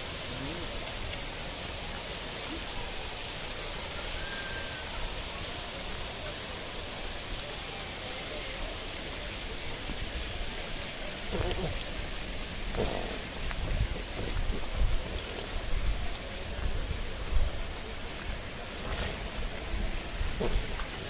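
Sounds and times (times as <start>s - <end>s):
faint distant voices: 0.0s - 21.0s
river water rushing: 0.0s - 21.0s.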